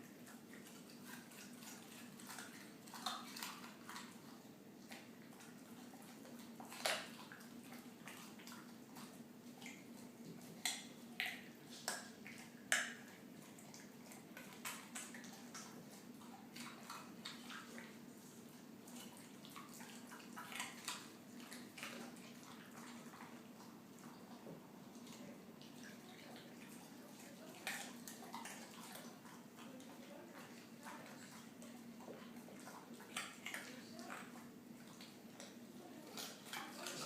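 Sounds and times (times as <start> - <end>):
dog crunching a carrot: 0.0 - 37.0.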